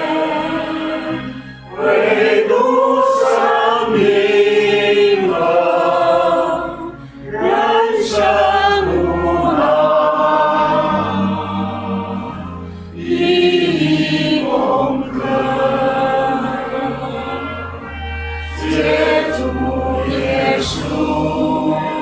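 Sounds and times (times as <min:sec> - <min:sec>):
choir singing a hymn: 0:00.0 - 0:22.0
sustained low accompaniment: 0:00.0 - 0:22.0.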